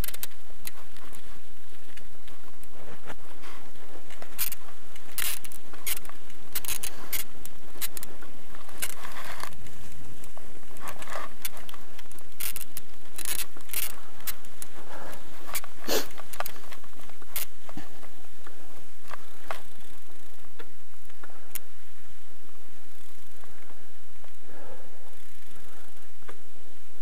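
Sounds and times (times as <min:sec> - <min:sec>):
bicycle rattling over bumps: 0:00.0 - 0:26.4.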